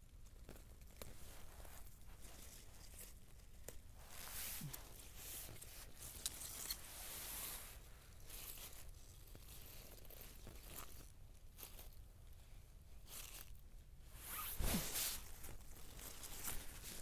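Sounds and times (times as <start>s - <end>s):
rustling of plants being picked: 0.2s - 17.0s.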